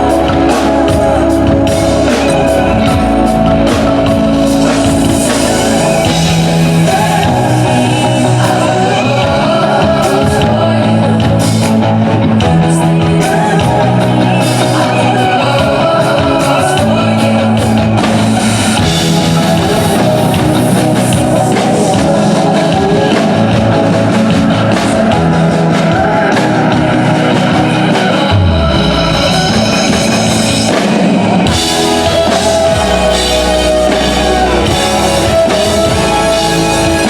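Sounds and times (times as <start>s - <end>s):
live pop-rock band: 0.0s - 37.0s
person singing: 0.0s - 37.0s.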